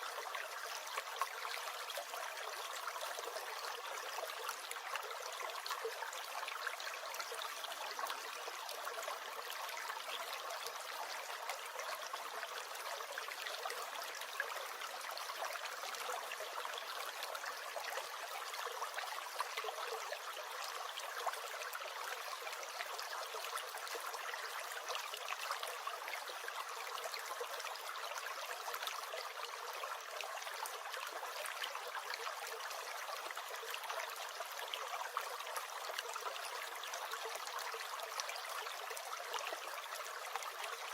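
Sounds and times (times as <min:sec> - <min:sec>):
brook gurgling: 0:00.0 - 0:40.9.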